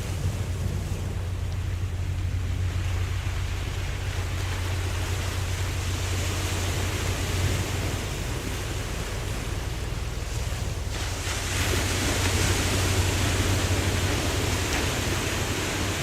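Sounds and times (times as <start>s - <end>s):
ocean surf washing: 0.0s - 16.0s.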